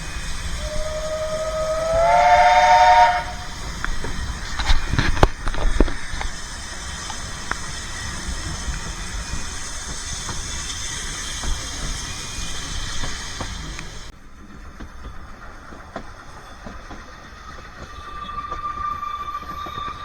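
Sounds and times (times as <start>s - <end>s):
steam train hissing: 0.0s - 20.0s.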